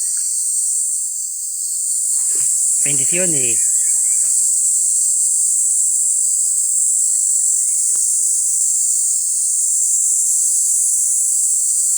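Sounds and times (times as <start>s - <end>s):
cicadas buzzing: 0.0s - 11.9s.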